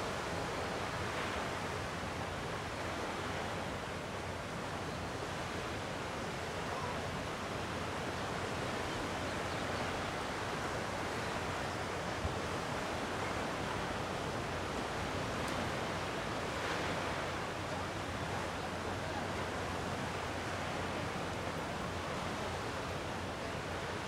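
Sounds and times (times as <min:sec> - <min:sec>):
sea waves washing on shore: 0:00.0 - 0:24.0
wind: 0:00.0 - 0:24.0.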